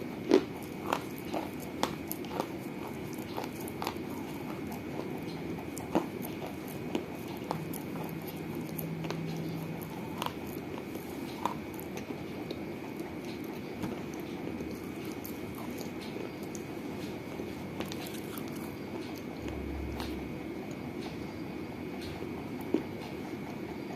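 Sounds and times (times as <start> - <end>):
chewing baked clay: 0.0 - 23.9.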